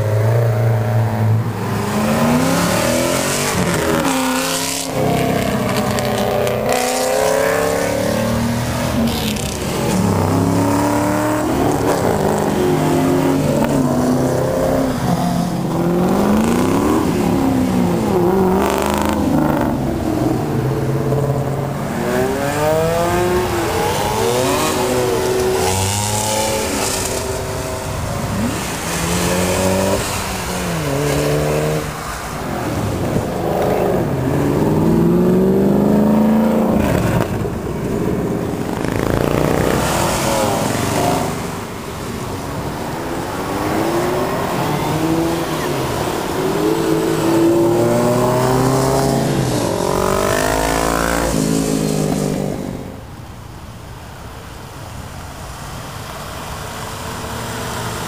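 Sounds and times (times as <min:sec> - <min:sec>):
cars accelerating hard: 0:00.0 - 0:53.5, 0:55.2 - 0:58.0.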